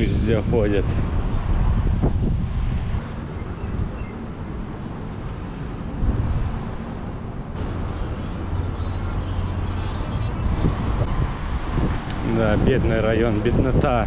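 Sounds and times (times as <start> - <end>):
low engine hum: 0.0 - 14.0
street traffic rumble: 0.0 - 14.0
wind on microphone: 0.0 - 14.0.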